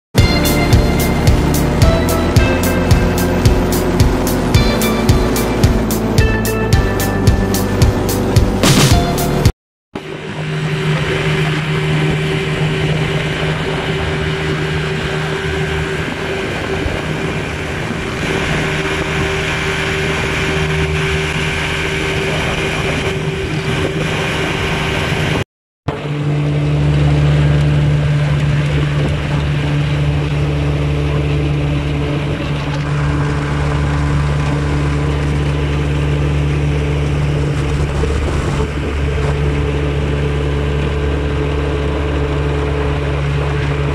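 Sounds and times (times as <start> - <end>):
outboard motor running: 0.2 - 43.9
rush of wind and water: 0.2 - 43.9.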